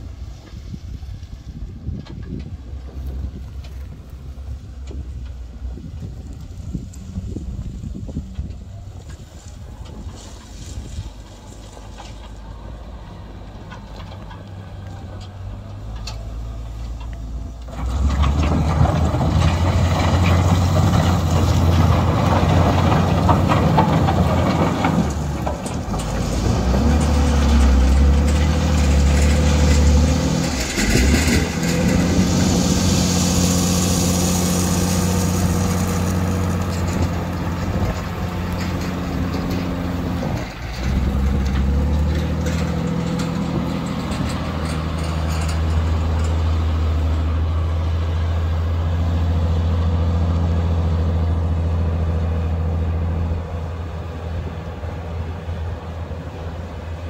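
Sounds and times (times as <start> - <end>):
wheel loader diesel engine: 0.0 - 57.0.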